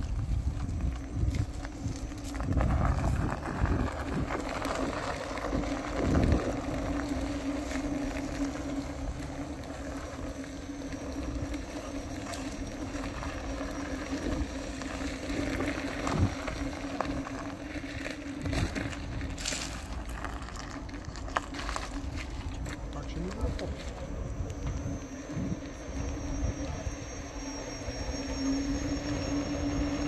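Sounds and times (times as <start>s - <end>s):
skateboard wheels rolling on gravel: 0.0s - 30.0s.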